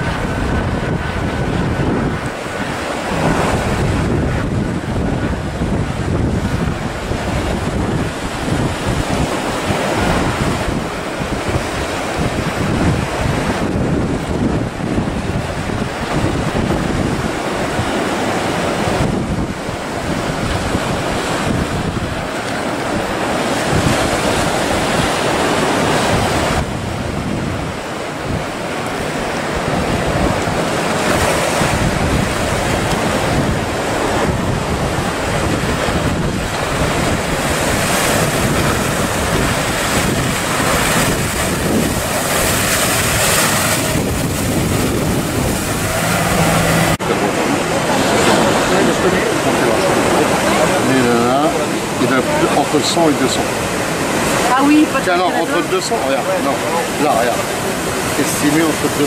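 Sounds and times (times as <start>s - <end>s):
waves breaking and surf: 0.0s - 59.0s
wind buffeting microphone: 0.0s - 59.0s.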